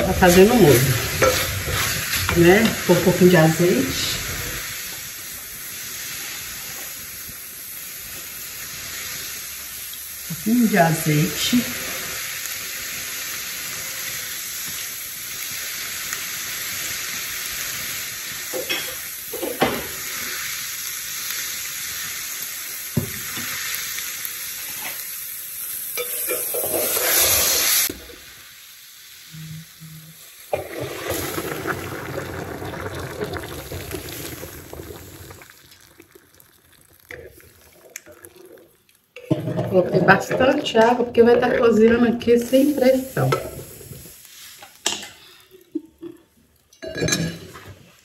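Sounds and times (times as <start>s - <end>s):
food sizzling in a pot: 0.0s - 48.0s.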